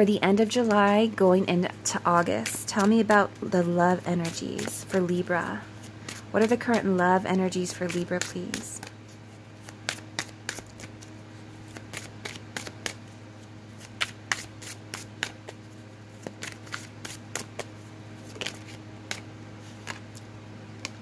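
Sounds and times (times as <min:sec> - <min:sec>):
steady low hum: 0:00.0 - 0:21.0
cards being shuffled: 0:02.2 - 0:21.0.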